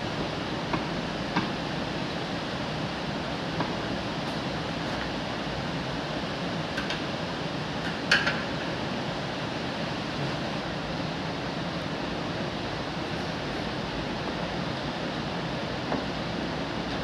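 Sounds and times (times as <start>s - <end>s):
fan-like background noise: 0.0s - 17.0s.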